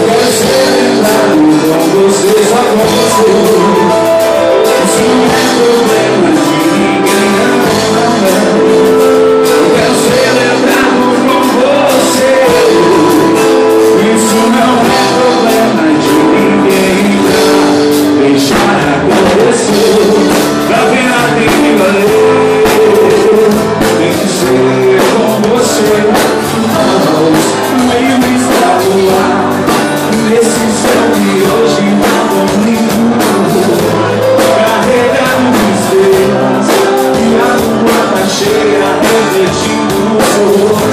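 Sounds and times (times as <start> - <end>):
live band music with singing: 0.0 - 40.9.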